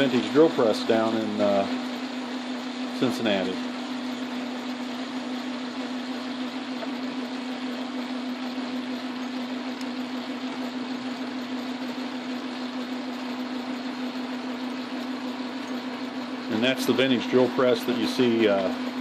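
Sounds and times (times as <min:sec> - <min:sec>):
metal lathe humming: 0:00.0 - 0:19.0.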